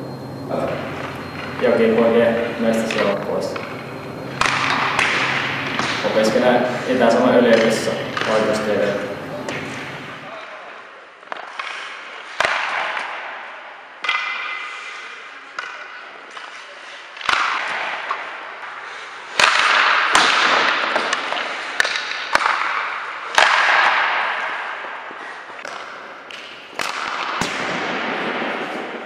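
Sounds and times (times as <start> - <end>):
puck hitting the boards: 2.8 - 29.0
hockey stick cracking on puck: 2.9 - 9.9, 11.2 - 13.4, 14.0 - 29.0.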